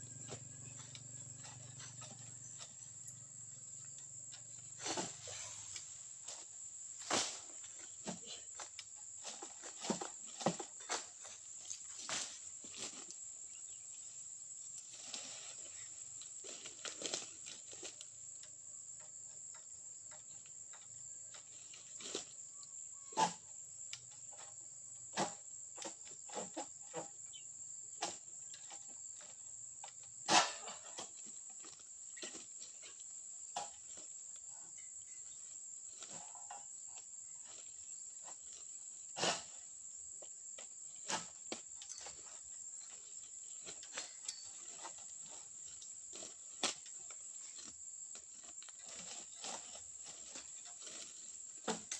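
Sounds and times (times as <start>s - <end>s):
insect chirring: 0.0s - 9.4s, 11.2s - 51.9s.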